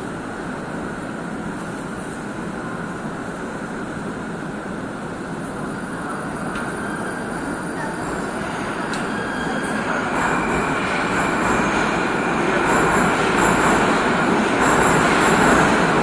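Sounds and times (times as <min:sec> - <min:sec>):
high train whine: 0:00.0 - 0:16.0
train rumbling: 0:00.0 - 0:16.0.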